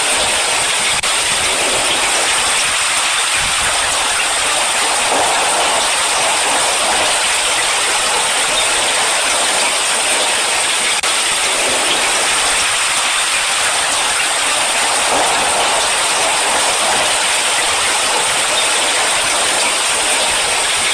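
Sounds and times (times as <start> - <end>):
heavy rain hissing: 0.0 - 20.9.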